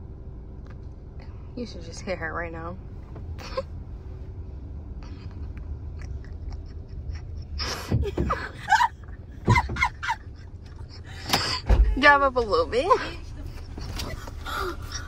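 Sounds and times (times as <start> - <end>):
car cabin low rumble: 0.0 - 15.0.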